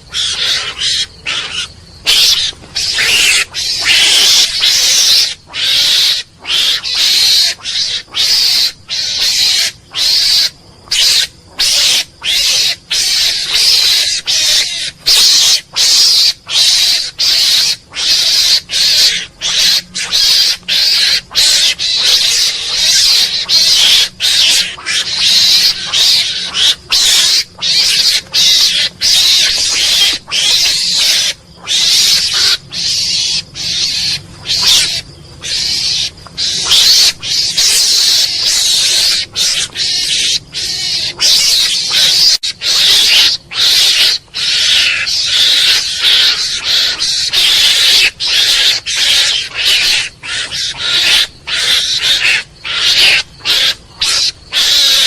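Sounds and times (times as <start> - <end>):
mongoose harsh high calls: 0.0 - 55.0.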